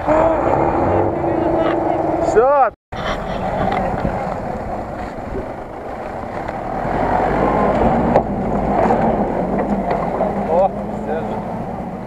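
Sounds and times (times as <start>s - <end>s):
suv engine driving past: 0.0s - 12.0s.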